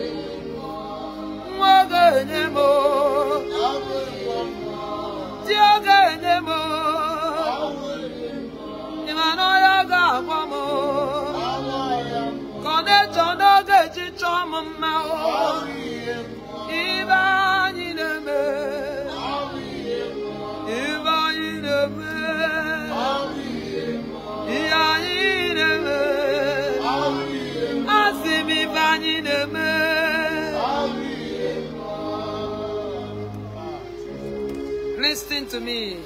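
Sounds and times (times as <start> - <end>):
sustained backing chords: 0.0 - 36.0.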